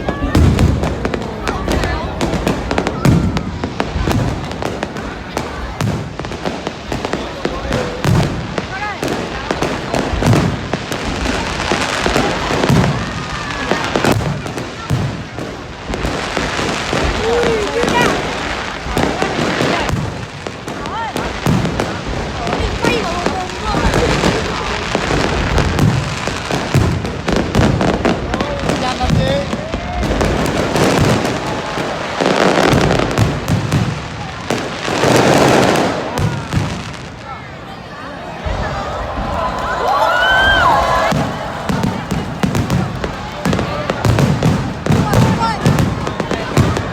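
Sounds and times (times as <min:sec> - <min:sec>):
fireworks bangs and booms: 0:00.0 - 0:46.9
fireworks crackling rumble: 0:00.0 - 0:46.9.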